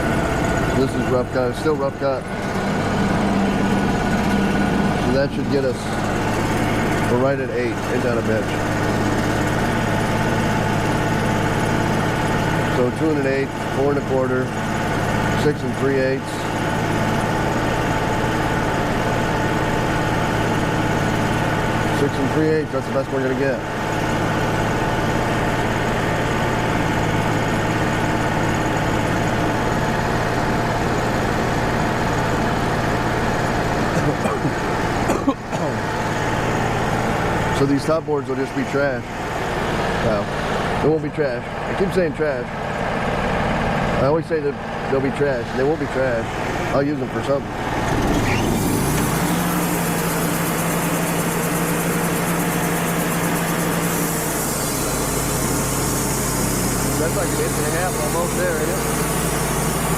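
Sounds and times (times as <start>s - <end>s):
portable sawmill running: 0.0s - 59.9s.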